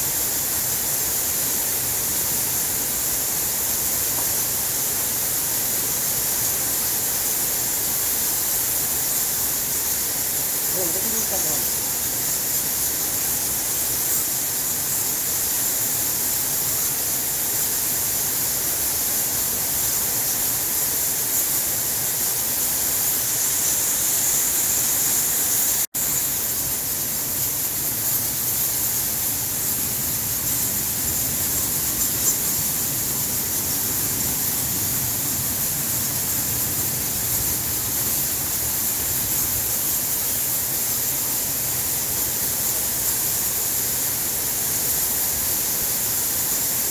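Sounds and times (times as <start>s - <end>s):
bats chittering and squeaking: 0.0s - 46.9s.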